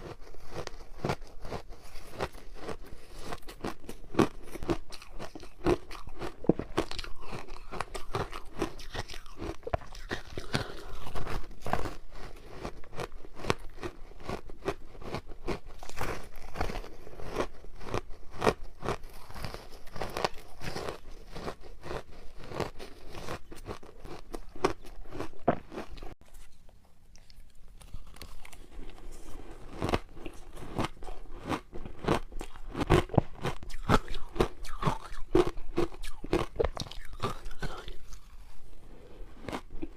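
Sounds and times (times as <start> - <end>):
ice crunching between teeth: 0.0 - 26.2, 27.2 - 39.9.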